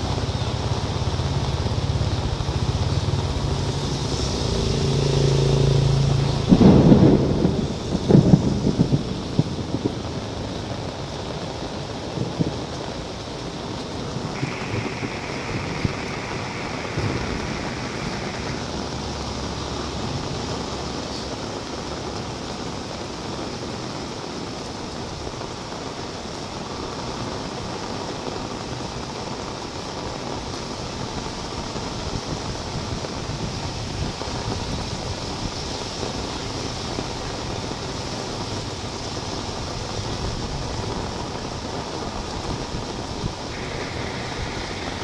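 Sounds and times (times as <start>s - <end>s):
heavy rain on wet road: 0.0s - 45.0s.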